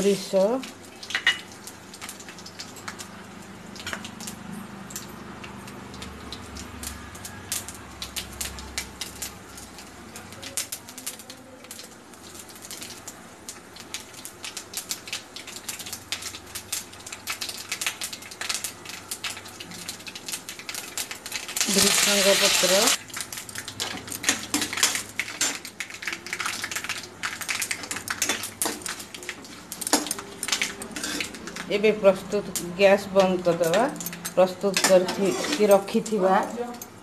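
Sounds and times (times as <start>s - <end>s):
seeds popping in hot oil: 0.0s - 37.0s.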